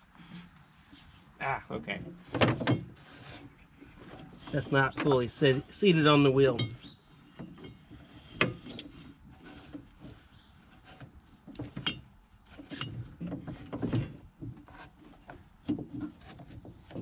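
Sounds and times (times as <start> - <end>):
insect chirr: 0.0 - 17.0.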